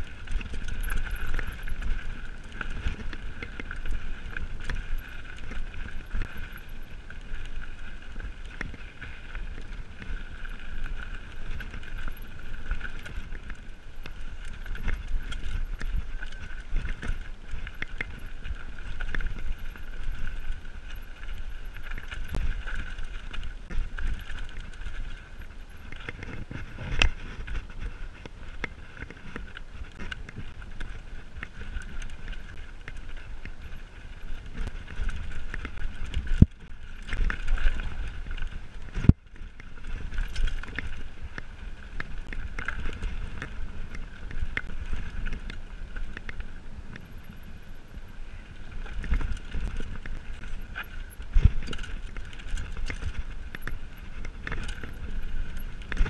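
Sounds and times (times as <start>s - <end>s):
bike rattling: 0.0s - 56.0s
bike tyres over dirt and stones: 0.0s - 56.0s
wind rumble on microphone: 0.0s - 56.0s.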